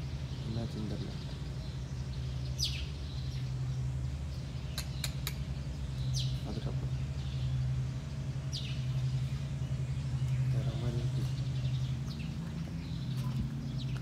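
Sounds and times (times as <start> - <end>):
bird chirping: 0.0 - 14.0
low hum: 0.0 - 14.0.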